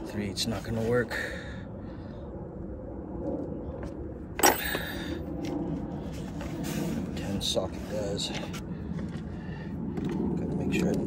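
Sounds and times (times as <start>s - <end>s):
low rumble of vehicle noise: 0.0s - 11.0s.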